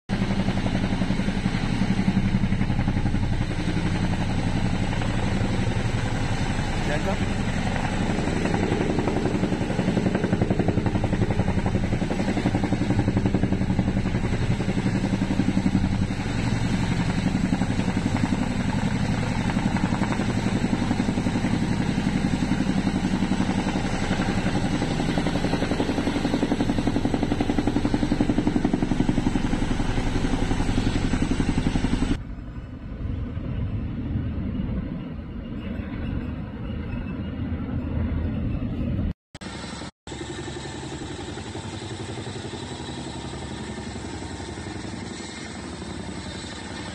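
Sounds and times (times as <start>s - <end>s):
helicopter rotors beating: 0.1s - 46.9s.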